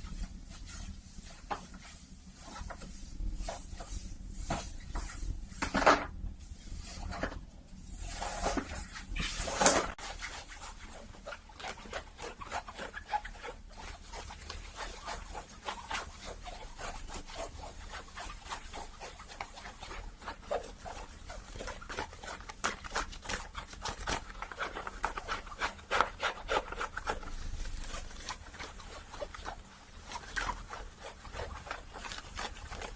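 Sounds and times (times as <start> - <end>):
brushing swishes: 0.0 - 5.7, 6.4 - 32.9
fine crackling scratches: 0.0 - 32.9.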